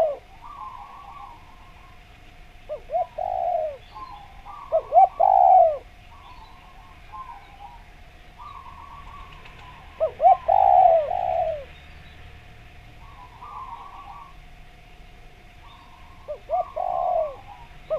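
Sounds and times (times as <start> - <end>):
dove cooing: 0.0 - 11.8, 12.9 - 17.9
faint small birds chirping: 0.0 - 17.9.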